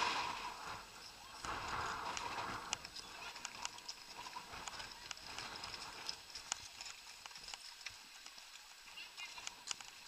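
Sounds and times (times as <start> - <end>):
horse hooves clopping: 0.0 - 10.0.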